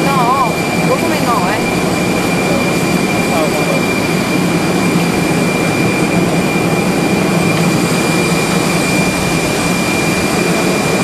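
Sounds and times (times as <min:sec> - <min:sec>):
aircraft turbine engines running: 0:00.0 - 0:11.0.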